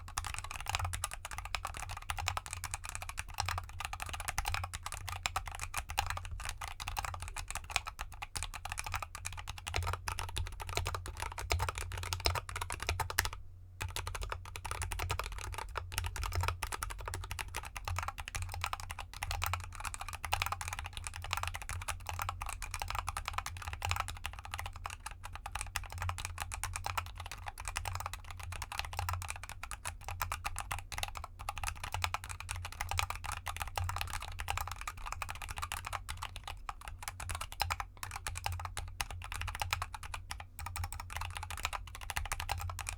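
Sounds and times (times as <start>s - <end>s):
fast mechanical keyboard typing: 0.0s - 42.9s.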